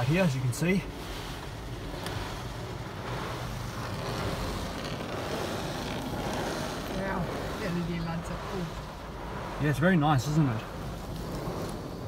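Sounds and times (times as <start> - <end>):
water jets spraying on car windows: 0.0 - 12.0.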